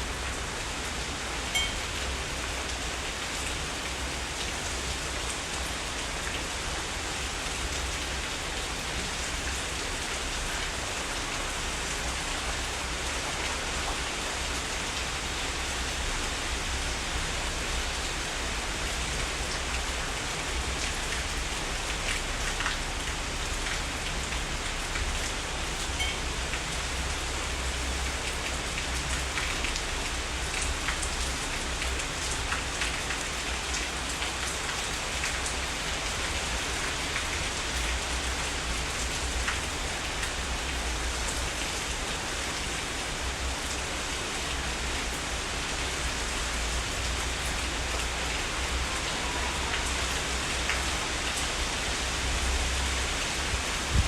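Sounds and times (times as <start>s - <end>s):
heavy rain hissing: 0.0s - 54.0s
raindrops pattering: 0.1s - 54.0s.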